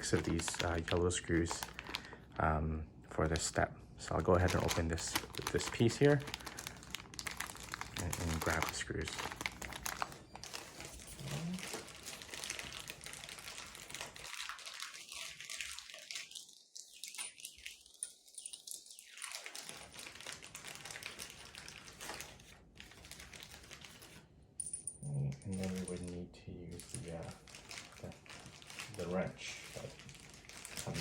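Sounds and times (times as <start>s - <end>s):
plastic packet crinkling: 0.0s - 18.0s, 18.9s - 24.2s, 25.6s - 31.0s.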